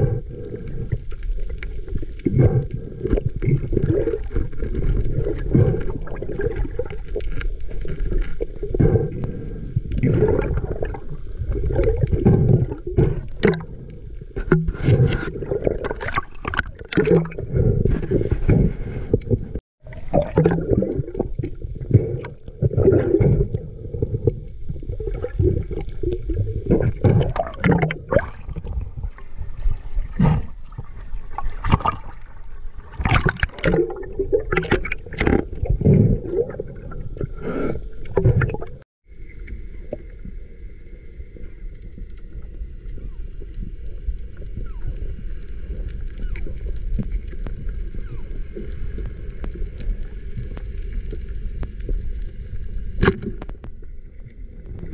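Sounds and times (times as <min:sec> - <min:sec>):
sharp crackles: 0:00.0 - 0:28.6, 0:39.4 - 0:54.9
muffled underwater water sloshing: 0:00.0 - 0:54.9.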